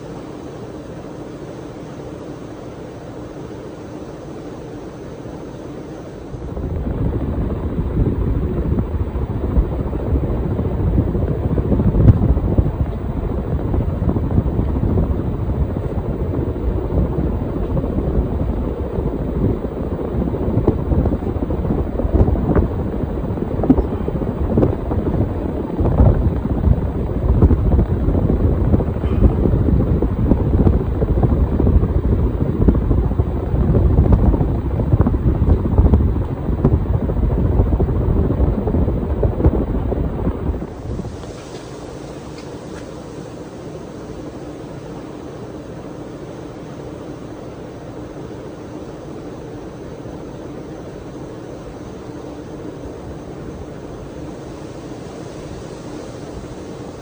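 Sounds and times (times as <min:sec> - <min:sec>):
ceiling fan air buffeting microphone: 0:00.0 - 0:57.0.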